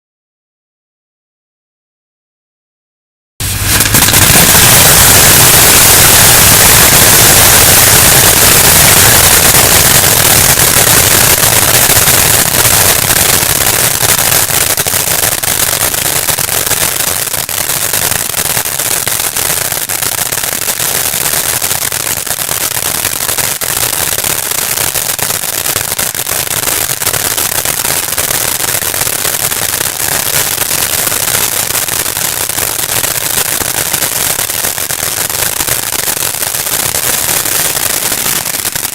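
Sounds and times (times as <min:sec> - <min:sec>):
rapid firecracker bangs: 0:03.4 - 0:38.9.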